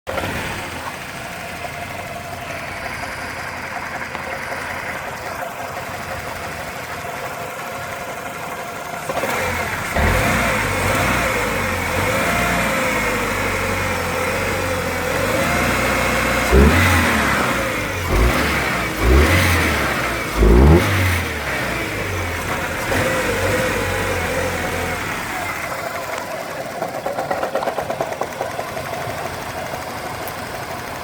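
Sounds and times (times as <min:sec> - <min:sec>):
misfiring engine revving: 0:00.1 - 0:08.2, 0:08.9 - 0:31.0.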